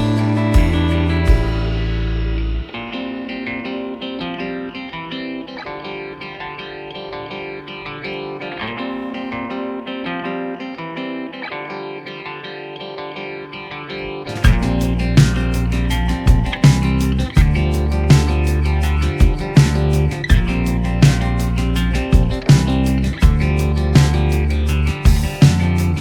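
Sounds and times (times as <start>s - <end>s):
plucked guitar music: 0.0s - 26.0s.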